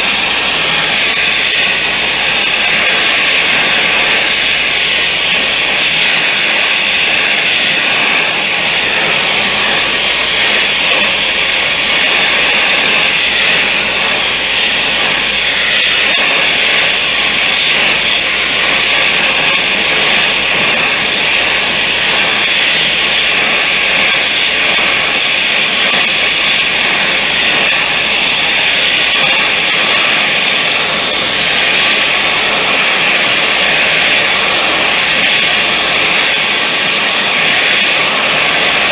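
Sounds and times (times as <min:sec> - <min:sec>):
forge hiss of forced air: 0:00.0 - 0:38.9.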